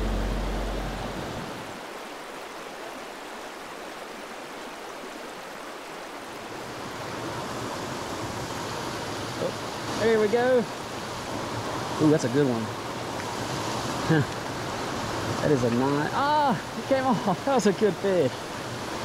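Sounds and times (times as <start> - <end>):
stream rushing over cascade: 0.0 - 19.0.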